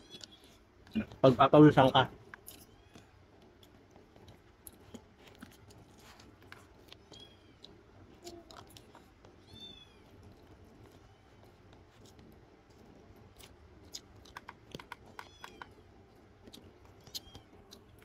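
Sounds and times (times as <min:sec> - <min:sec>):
faint chewing: 0:00.0 - 0:18.0.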